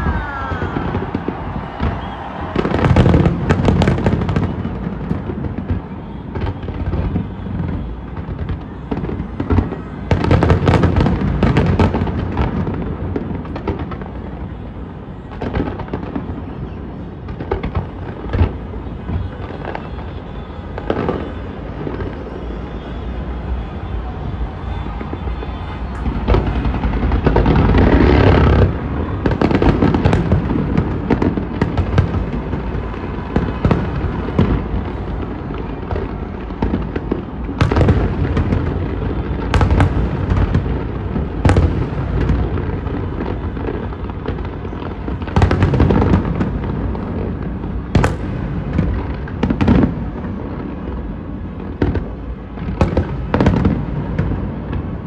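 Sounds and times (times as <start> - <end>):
fireworks bangs and crackling: 0.0 - 55.0
sharp loud firework reports: 0.0 - 55.0.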